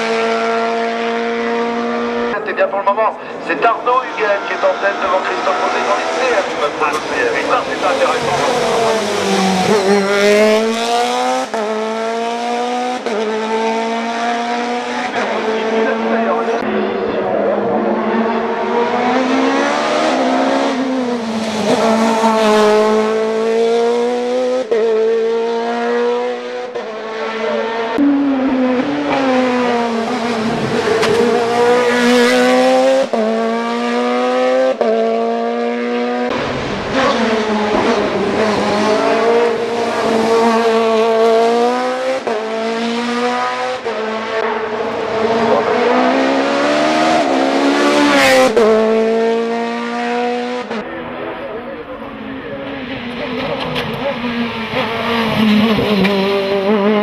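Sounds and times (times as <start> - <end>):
racing car engine at high revs: 0.0 - 57.0.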